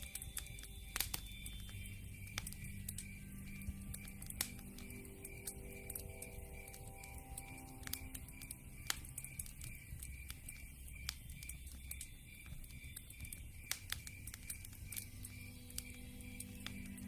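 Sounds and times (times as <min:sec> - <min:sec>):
low rumble of burning logs: 0:00.0 - 0:17.0
wood fire crackling and popping: 0:00.0 - 0:17.0.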